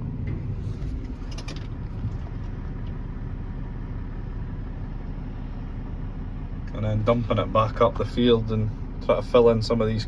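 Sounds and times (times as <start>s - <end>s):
tractor engine rumbling: 0.0s - 10.0s.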